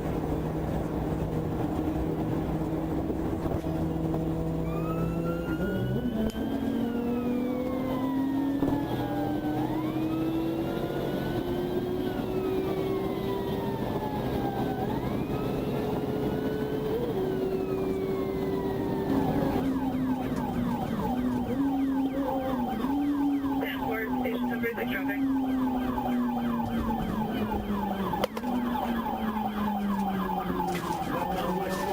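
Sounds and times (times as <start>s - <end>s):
car engine: 0.0s - 31.9s
road noise: 0.0s - 31.9s
police siren wailing and yelping: 4.3s - 31.9s.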